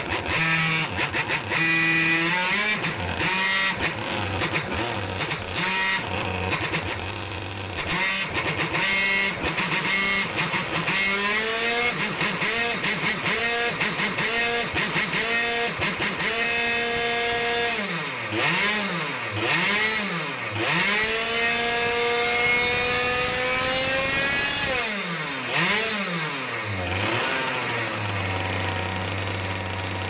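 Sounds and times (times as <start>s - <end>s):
go-kart engine revving: 0.0s - 30.0s.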